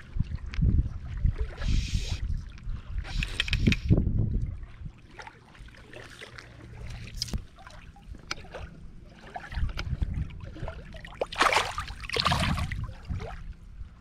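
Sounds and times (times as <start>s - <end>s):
fish splashing in shallow water: 0.0s - 13.6s.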